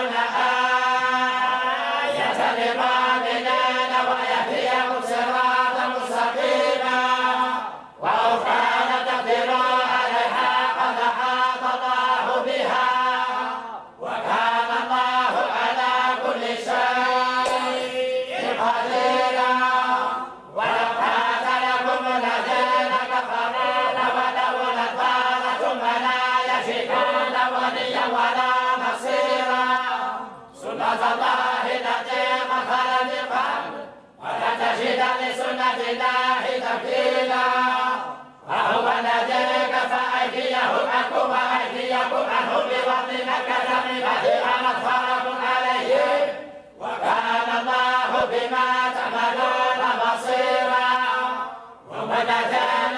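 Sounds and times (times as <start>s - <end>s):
group chanting in unison: 0.0s - 52.9s.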